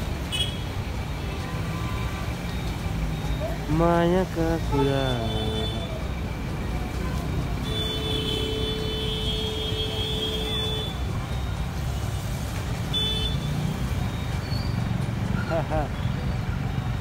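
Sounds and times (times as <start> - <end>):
idling vehicle engines: 0.0 - 12.8, 13.4 - 17.0.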